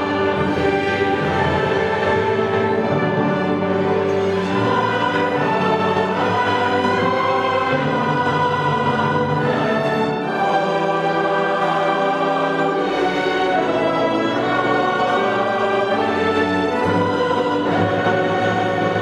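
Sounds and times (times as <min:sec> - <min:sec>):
choir singing: 0:00.0 - 0:19.0
orchestra playing sacred music: 0:00.0 - 0:19.0.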